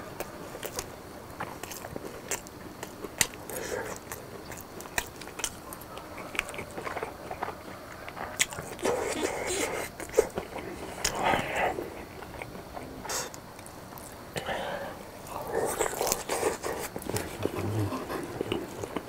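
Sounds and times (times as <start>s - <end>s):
close chewing: 0.1s - 14.4s, 15.2s - 19.0s.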